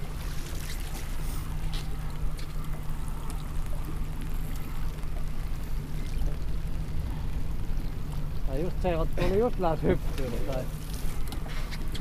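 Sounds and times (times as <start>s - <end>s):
boat motor hum: 0.0s - 12.0s
water splashing against boat: 0.0s - 12.0s.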